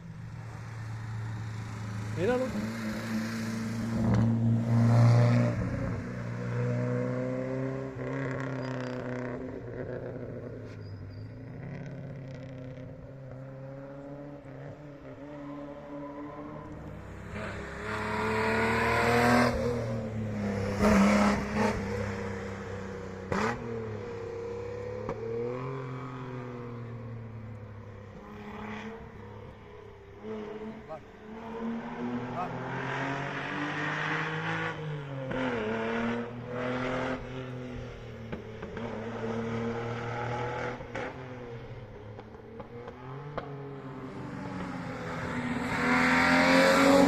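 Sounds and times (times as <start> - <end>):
rally cars passing at full throttle: 0.0 - 47.0.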